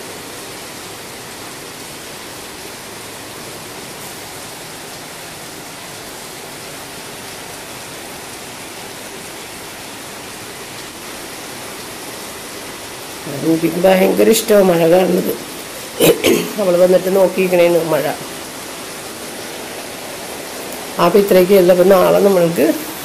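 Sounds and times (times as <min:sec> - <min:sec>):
rain pouring on tiles: 0:00.0 - 0:23.0.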